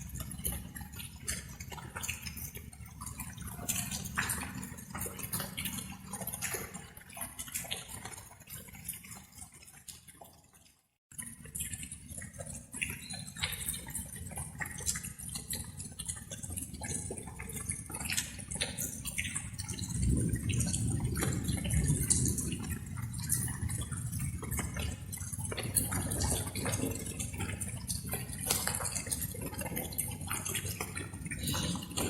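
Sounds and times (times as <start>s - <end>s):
rain drops dripping: 0.0s - 32.0s.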